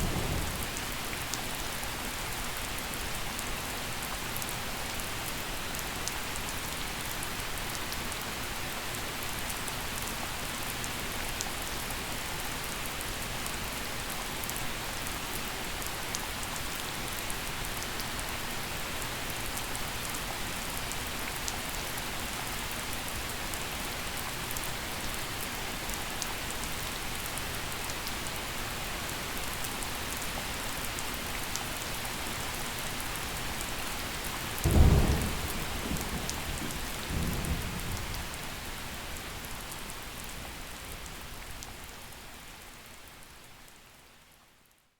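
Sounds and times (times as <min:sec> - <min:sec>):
rain hiss: 0:00.0 - 0:44.2.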